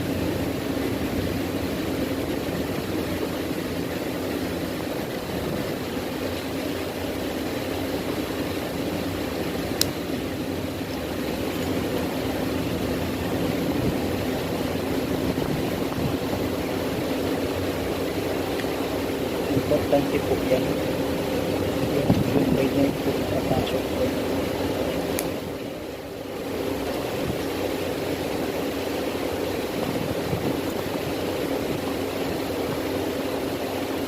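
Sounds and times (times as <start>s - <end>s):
motor humming: 0.0s - 34.0s.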